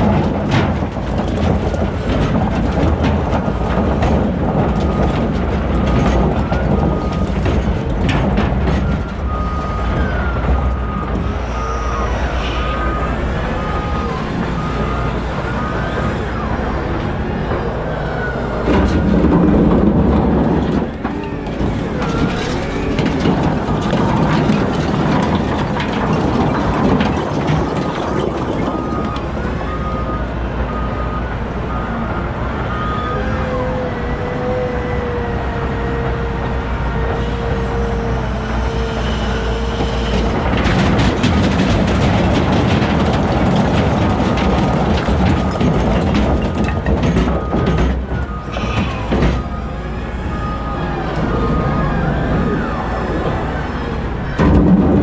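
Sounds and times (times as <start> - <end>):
diesel engine working under load: 0.0 - 55.0.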